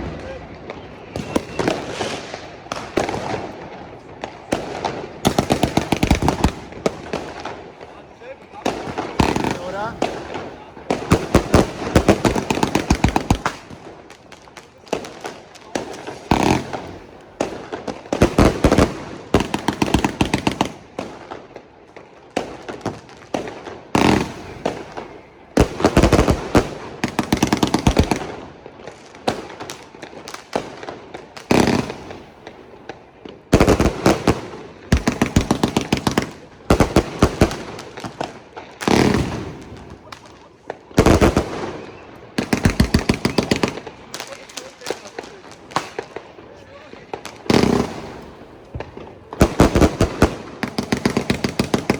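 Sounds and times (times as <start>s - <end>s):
fireworks and firecrackers banging: 0.0s - 51.9s.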